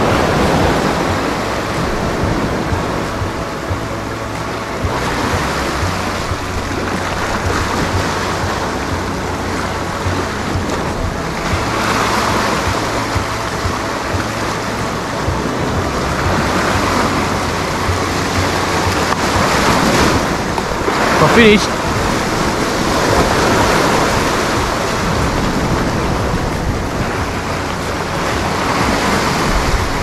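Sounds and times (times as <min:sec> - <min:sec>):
surf washing over rocks: 0:00.0 - 0:30.0.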